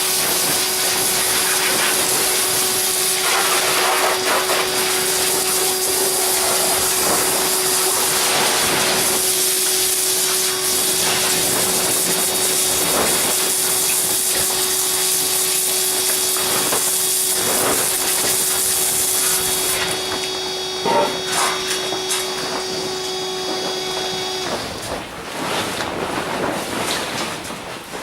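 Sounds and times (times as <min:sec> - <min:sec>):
motor hum: 0:00.0 - 0:25.2.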